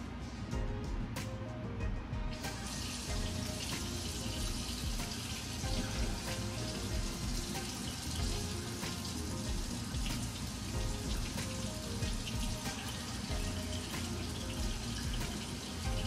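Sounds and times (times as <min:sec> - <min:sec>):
faint music: 0:00.0 - 0:16.0
tap water running into sink: 0:02.5 - 0:16.0.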